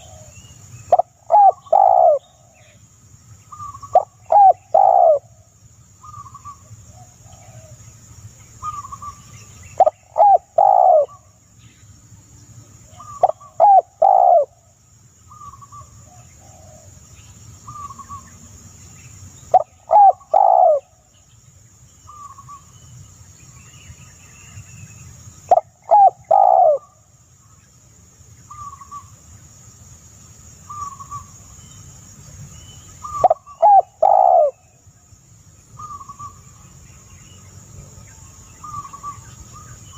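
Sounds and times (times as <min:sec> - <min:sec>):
soft high bird calls: 0:00.0 - 0:05.4, 0:06.0 - 0:07.8, 0:08.4 - 0:11.9, 0:12.8 - 0:14.6, 0:15.3 - 0:18.4, 0:19.0 - 0:27.7, 0:28.4 - 0:29.4, 0:30.6 - 0:35.0, 0:35.7 - 0:39.9.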